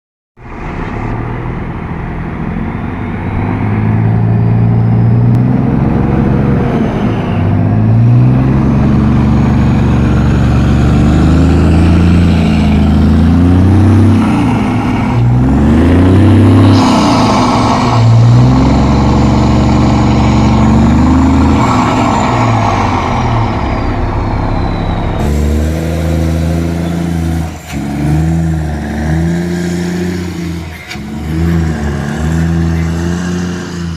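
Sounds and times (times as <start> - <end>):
truck diesel engine revving: 0.4 - 33.9.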